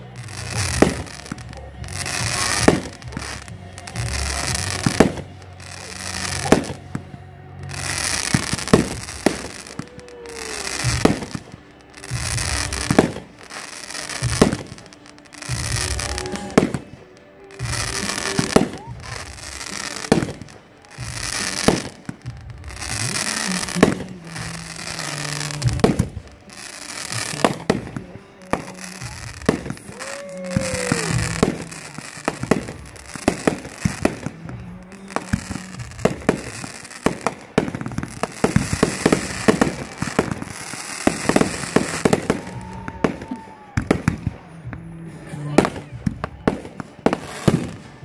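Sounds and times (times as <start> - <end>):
firework whistling: 0.0 - 48.0
fireworks crackling: 0.0 - 48.0
fireworks shells bursting: 0.0 - 48.0.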